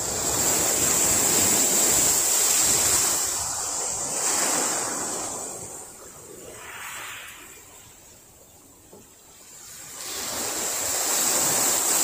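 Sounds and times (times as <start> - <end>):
small sea waves breaking: 0.0 - 12.0.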